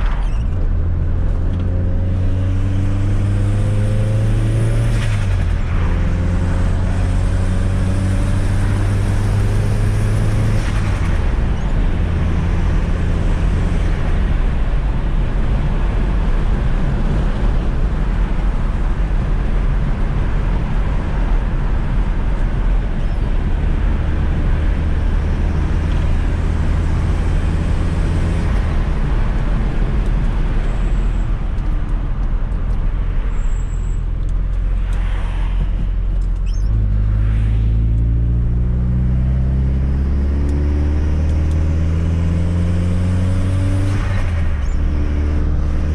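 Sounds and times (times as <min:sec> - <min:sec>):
road noise: 0:00.0 - 0:45.9.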